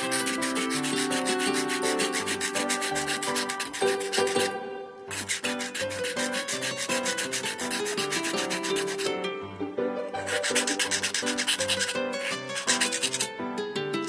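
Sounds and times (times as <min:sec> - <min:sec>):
file rasping on plastic: 0:00.0 - 0:09.2, 0:10.2 - 0:13.3
soft background music: 0:00.0 - 0:14.0.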